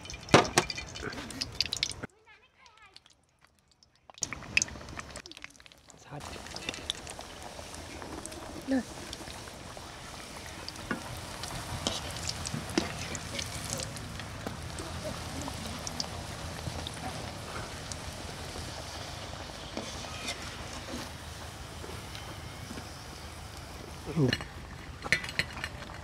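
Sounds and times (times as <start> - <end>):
deep-frying sizzle: 0.0 - 2.1, 3.0 - 26.0
oil popping and crackling: 0.0 - 26.0.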